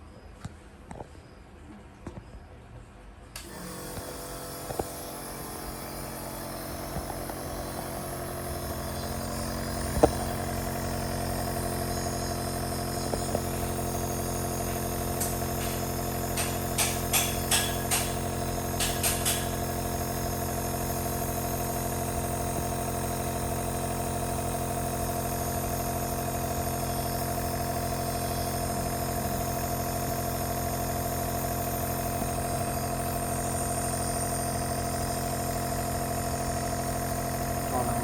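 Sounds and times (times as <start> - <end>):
compressor nebulizer humming: 3.3 - 38.0.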